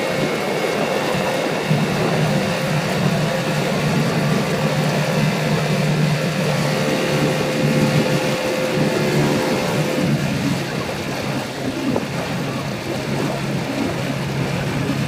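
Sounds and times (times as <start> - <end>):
even rushing noise: 0.0 - 15.0
outboard motor droning: 0.0 - 15.0.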